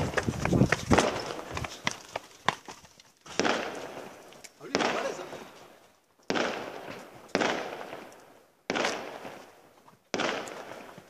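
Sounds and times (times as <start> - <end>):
fireworks exploding: 0.0 - 1.9, 3.3 - 11.0.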